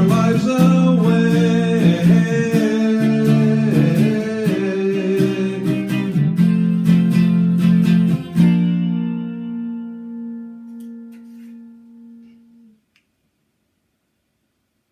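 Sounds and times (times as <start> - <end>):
guitar strumming chords: 0.0 - 12.8.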